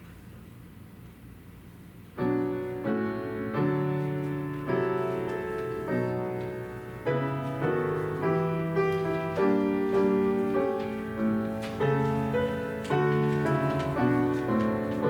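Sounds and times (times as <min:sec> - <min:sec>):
slow piano chords: 0:02.0 - 0:15.0.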